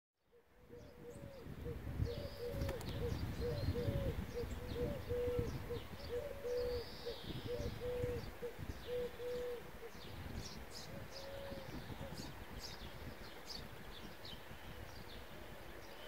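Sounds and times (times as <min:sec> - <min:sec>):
birds calling with low notes: 0:00.3 - 0:16.0.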